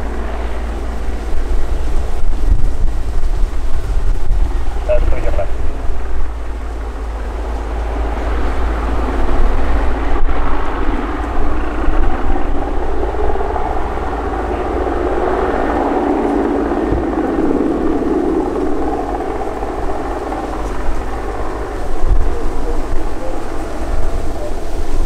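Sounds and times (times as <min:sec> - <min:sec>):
helicopter in flight: 0:00.0 - 0:25.0.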